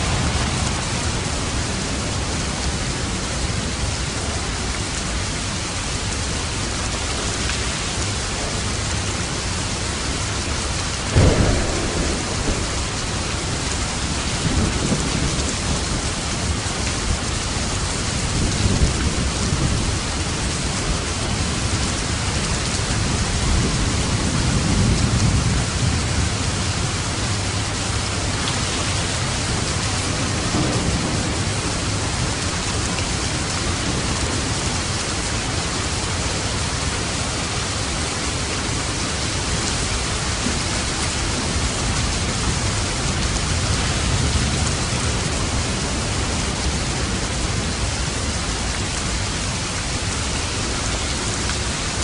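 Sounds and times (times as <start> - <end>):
thunder rumbling: 0.0 - 4.6, 7.9 - 52.0
heavy rain falling: 0.0 - 52.0.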